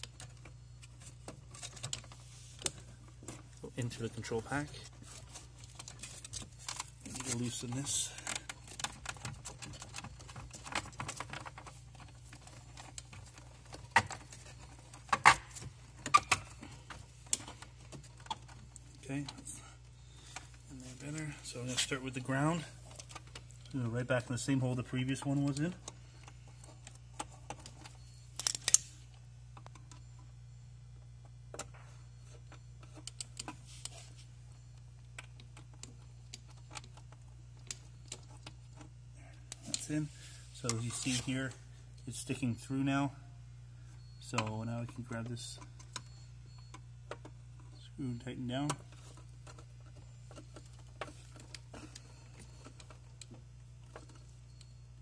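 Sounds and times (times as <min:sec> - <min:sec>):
wires and cord clicking and rustling: 0:00.0 - 0:30.3, 0:31.2 - 0:43.0, 0:44.2 - 0:55.0
steady low hum: 0:00.0 - 0:55.0.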